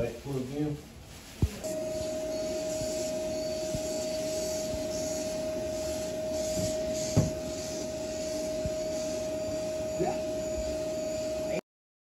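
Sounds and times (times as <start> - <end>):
vacuum cleaner whine: 1.4 - 11.6.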